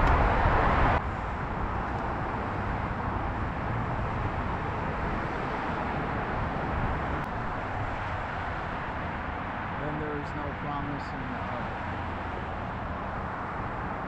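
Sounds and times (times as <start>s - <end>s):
heavy road traffic: 0.0s - 14.0s.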